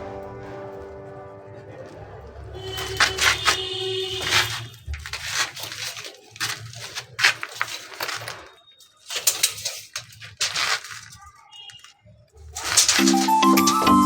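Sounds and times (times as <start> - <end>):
hard objects clicking and knocking: 2.6 - 14.0.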